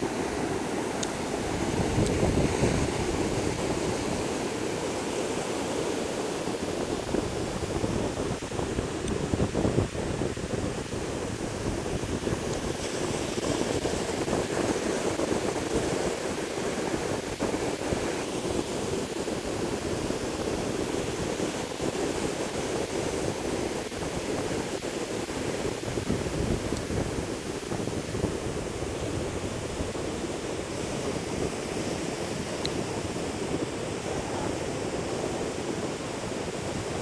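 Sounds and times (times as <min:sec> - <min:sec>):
ocean surf washing on beach: 0:00.0 - 0:37.0
wind on microphone: 0:00.0 - 0:37.0.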